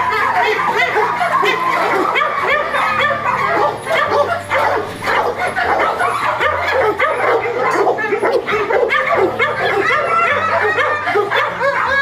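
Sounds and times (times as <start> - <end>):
dogs yipping and barking: 0.0 - 12.0.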